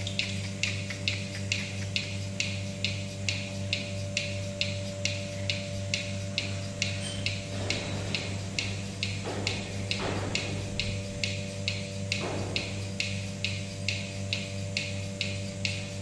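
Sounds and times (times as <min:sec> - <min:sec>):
pulsator clicking: 0:00.0 - 0:16.0
vacuum pump humming: 0:00.0 - 0:16.0.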